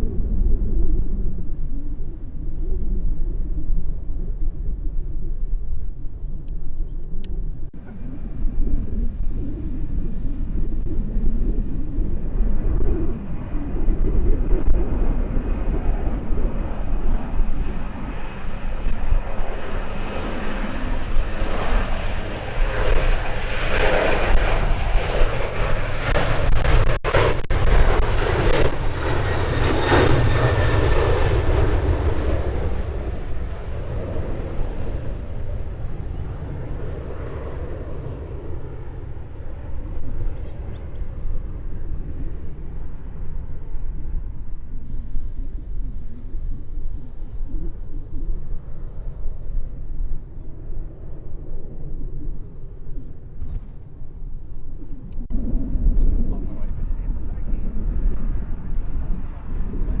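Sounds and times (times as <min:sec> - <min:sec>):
airliner engines passing: 0:00.0 - 1:00.0
wind buffeting microphone: 0:00.0 - 1:00.0.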